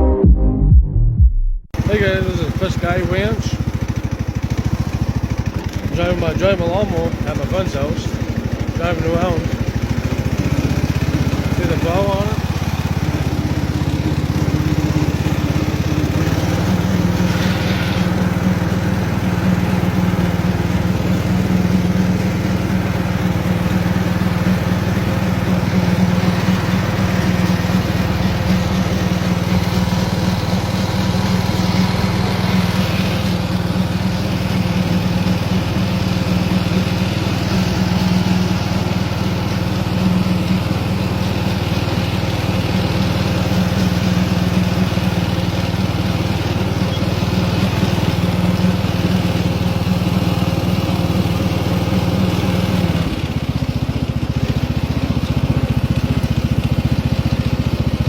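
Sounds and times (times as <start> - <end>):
riding lawnmower engine droning: 1.8 - 58.0.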